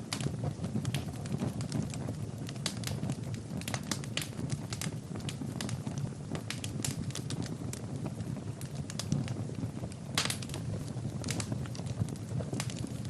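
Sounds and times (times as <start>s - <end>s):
fire crackling and popping: 0.0s - 13.0s
fire low rumble: 0.0s - 13.0s.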